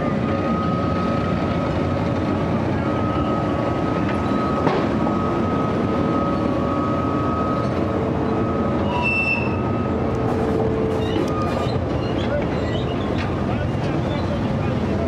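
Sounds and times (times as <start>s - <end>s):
electric locomotive rumbling: 0.0s - 15.0s.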